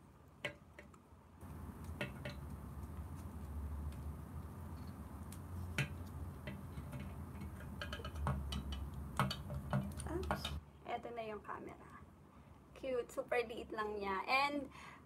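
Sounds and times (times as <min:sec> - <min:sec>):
low steady hum: 0:01.4 - 0:15.0.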